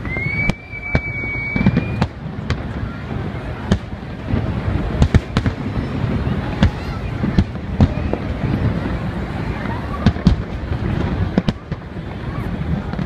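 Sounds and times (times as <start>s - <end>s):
crowd noise: 0.0s - 13.0s
firework whistle: 0.0s - 13.0s
fireworks bangs: 0.0s - 13.0s.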